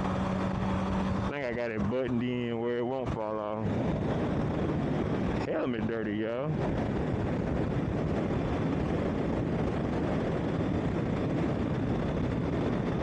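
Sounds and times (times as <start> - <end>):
motorcycle running noise: 0.0 - 13.0
wind rush: 0.0 - 13.0.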